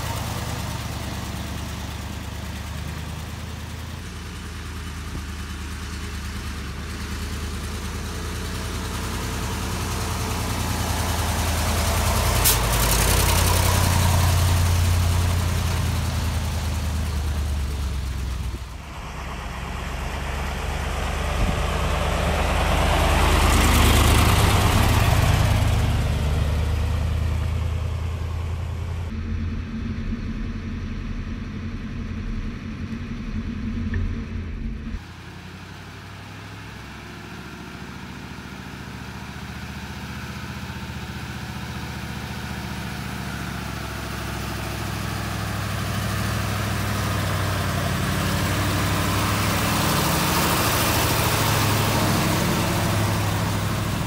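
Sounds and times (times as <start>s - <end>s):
truck diesel engine: 0.0s - 54.0s.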